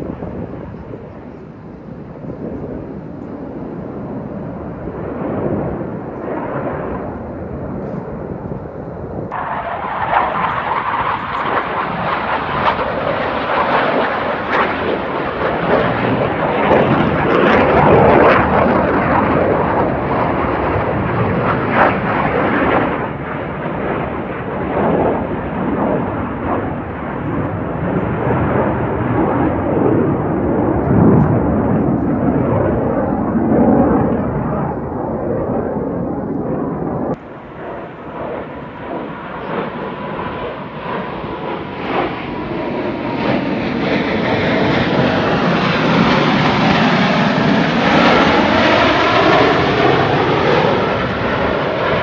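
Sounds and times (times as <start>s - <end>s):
fighter jet engine roar: 0.0s - 52.0s.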